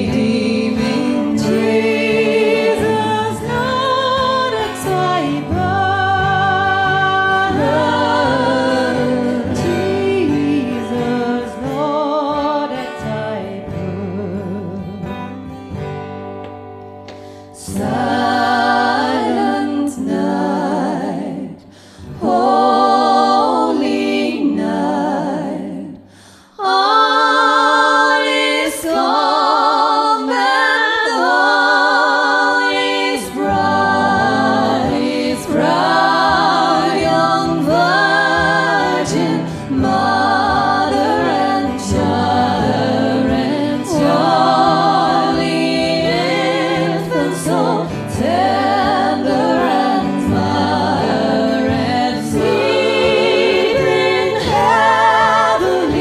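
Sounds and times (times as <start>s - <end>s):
women singing in harmony: 0.0s - 15.2s, 17.2s - 56.0s
acoustic guitar: 0.0s - 56.0s.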